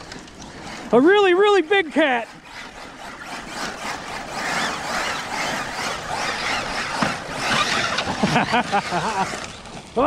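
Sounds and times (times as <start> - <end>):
electric motors whining: 0.0 - 10.0.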